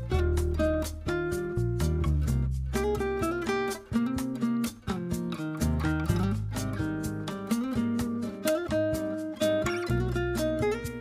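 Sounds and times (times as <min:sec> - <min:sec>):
bass line: 0:00.0 - 0:11.0
strummed acoustic guitar: 0:00.0 - 0:11.0.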